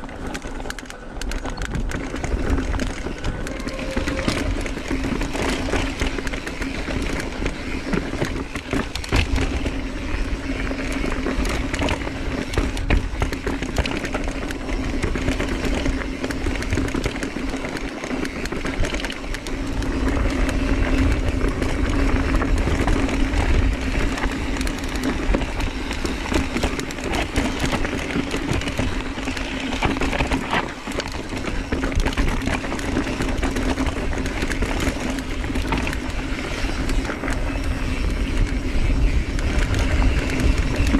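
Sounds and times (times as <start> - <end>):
bike clicks and rattles: 0.0 - 40.9
wind rumbling on microphone: 0.0 - 40.9.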